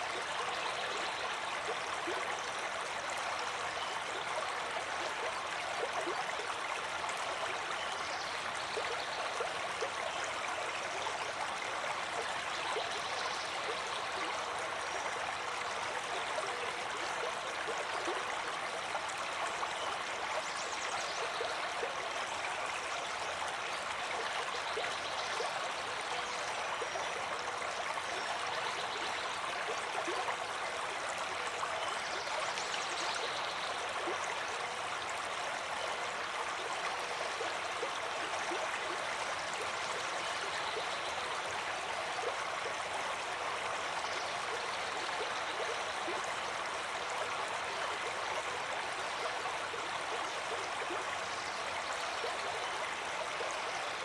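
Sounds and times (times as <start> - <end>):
water flowing in a stream: 0.0 - 54.0.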